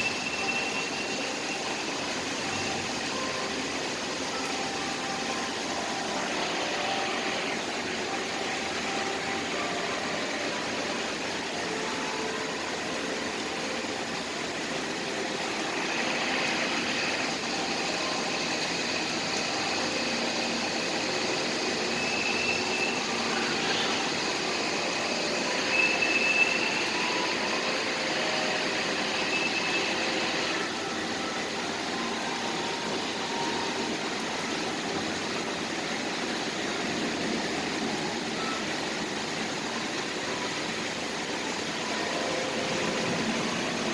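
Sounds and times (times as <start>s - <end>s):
city traffic noise: 0.0s - 43.9s
thin high whine: 0.0s - 43.9s.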